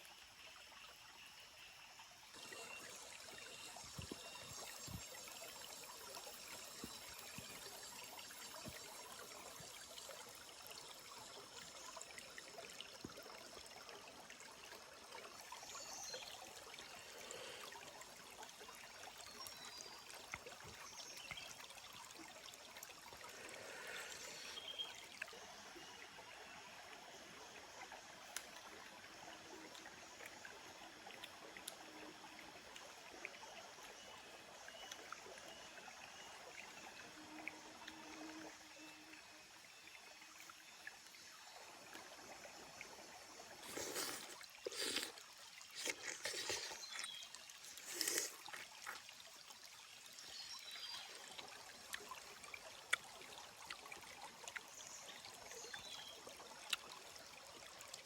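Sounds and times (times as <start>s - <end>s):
small stream trickling: 0.0s - 58.0s.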